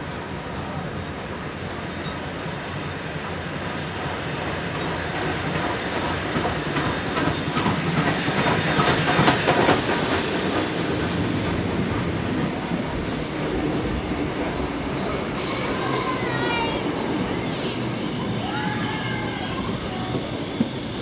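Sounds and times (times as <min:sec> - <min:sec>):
steam locomotive passing: 0:00.0 - 0:21.0.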